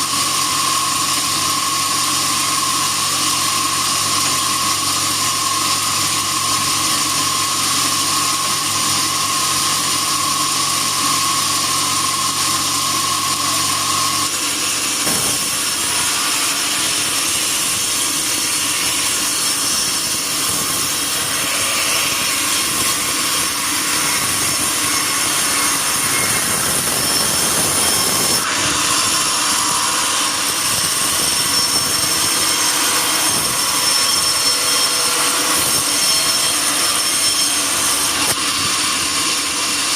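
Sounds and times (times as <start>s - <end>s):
bandsaw sawing wood: 0.0s - 39.9s.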